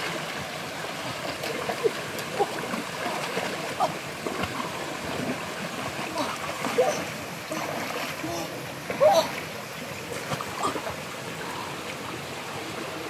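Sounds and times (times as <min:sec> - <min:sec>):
small water splashes: 0:00.0 - 0:13.0
stream trickling and gurgling: 0:00.0 - 0:13.0.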